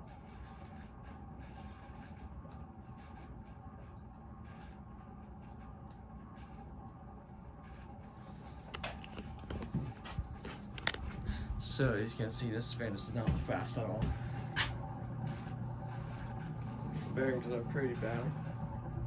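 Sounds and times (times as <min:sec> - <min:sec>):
ceiling fan bearings rubbing: 0:00.0 - 0:19.0
faint motor hum: 0:00.0 - 0:19.0.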